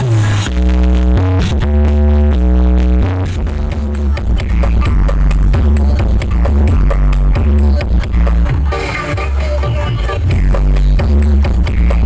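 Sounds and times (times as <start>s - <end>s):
bass-heavy electronic dance music: 0.0s - 12.0s.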